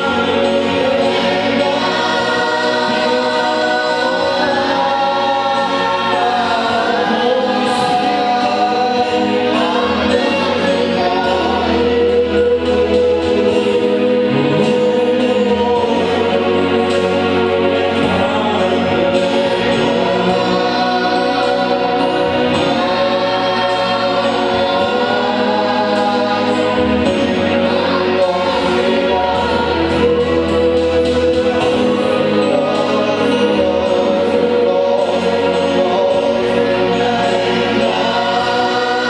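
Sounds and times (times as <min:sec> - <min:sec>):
gospel choir singing: 0:00.0 - 0:39.0
instrumental accompaniment: 0:00.0 - 0:39.0
low bass notes: 0:00.0 - 0:39.0.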